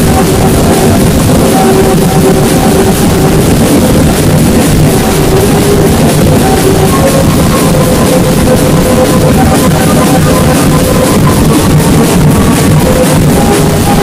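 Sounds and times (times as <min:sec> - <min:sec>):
marching drums beating: 0:00.0 - 0:14.0
melody of held notes: 0:00.0 - 0:14.0.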